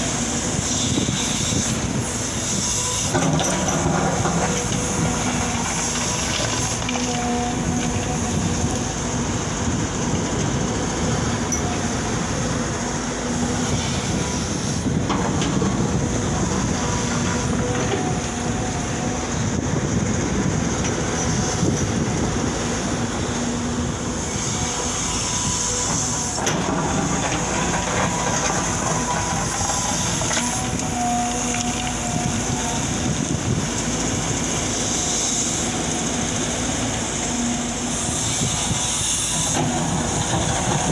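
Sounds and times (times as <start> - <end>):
droning hum: 0.0 - 40.9
excavator diesel engines running: 0.0 - 40.9.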